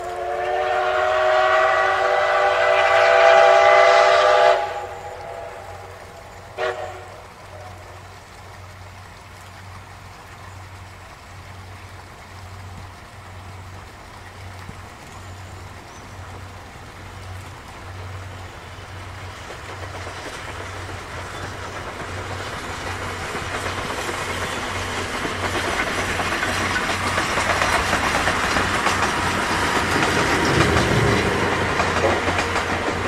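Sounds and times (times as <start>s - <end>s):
steam locomotive running: 0.0s - 33.0s.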